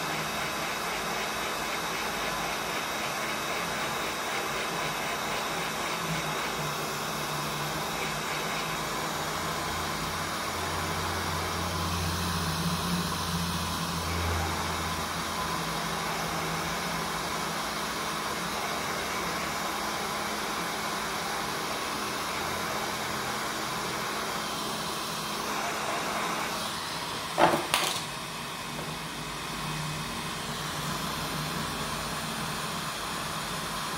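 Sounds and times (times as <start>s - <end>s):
hot air station blowing: 0.0s - 33.9s.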